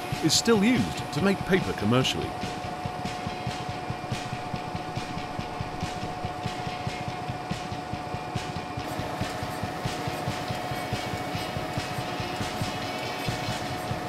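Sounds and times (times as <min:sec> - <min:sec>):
constant machine whine: 0:00.0 - 0:14.0
low mechanical pulsing: 0:00.0 - 0:14.0
paper machine mechanical drone: 0:00.0 - 0:14.0.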